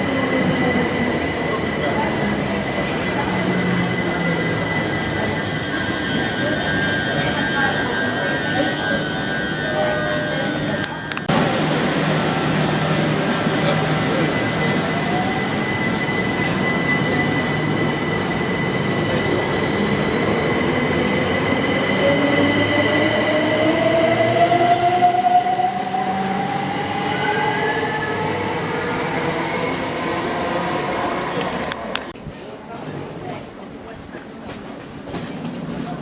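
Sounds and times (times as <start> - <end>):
train running: 0.0 - 32.2.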